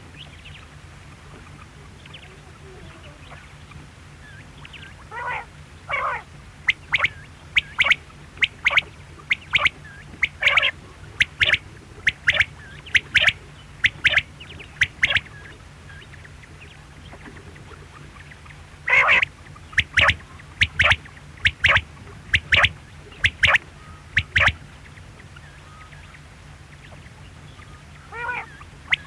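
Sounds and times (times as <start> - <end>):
low steady hum: 0.0 - 29.0
quail calling: 1.3 - 29.0.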